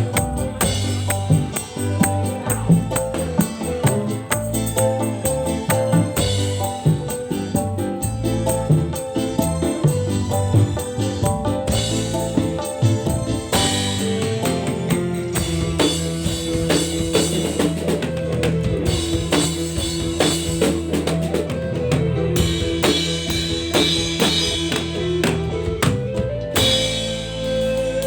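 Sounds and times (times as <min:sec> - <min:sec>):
band playing through speakers: 0:00.0 - 0:28.0
guitar: 0:00.0 - 0:28.0
steady drum beat: 0:00.0 - 0:28.0.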